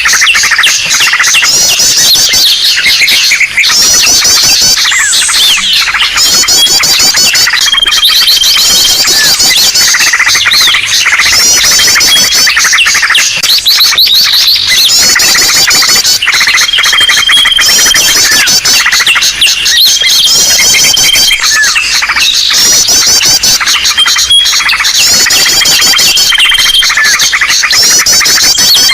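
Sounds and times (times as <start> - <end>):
chorus of small birds chirping: 0.0 - 28.9.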